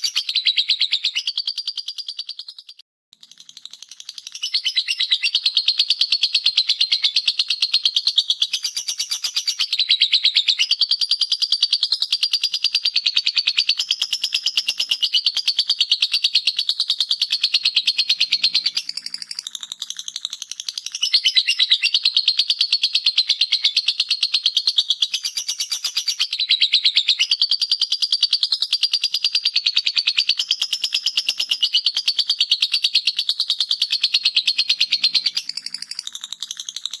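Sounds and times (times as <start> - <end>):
lovebird chattering with high chirps: 0.0 - 37.0.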